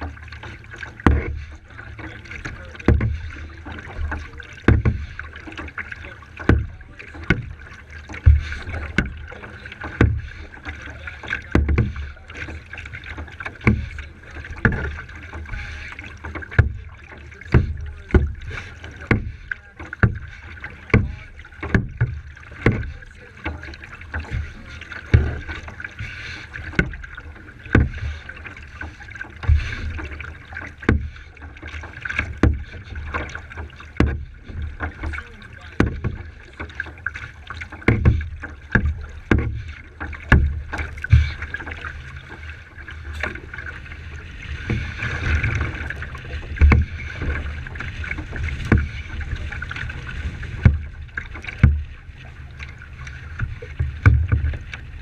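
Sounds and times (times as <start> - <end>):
kayak paddle strokes: 0.0 - 55.0
water and wind hiss: 0.0 - 55.0.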